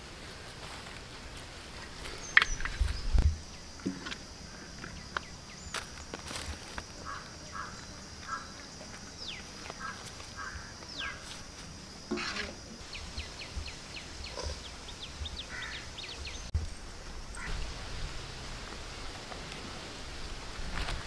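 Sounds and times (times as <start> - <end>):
birds calling: 0.0 - 17.7.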